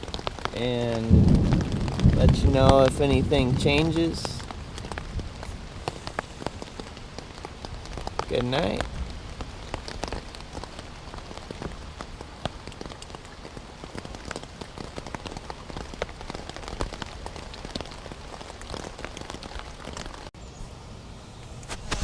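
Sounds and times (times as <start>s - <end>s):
rain falling on a tent: 0.0s - 20.4s.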